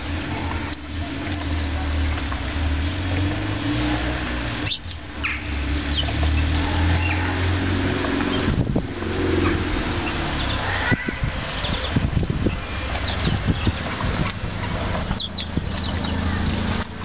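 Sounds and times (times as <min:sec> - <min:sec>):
low rumble of road traffic: 0:00.0 - 0:17.0
small birds chirping: 0:00.0 - 0:17.0.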